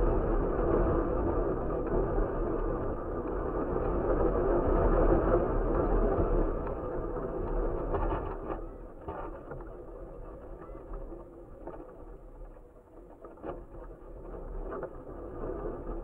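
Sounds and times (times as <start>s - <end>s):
kite flapping: 0.0s - 16.0s
wind buffeting camera: 0.0s - 16.0s.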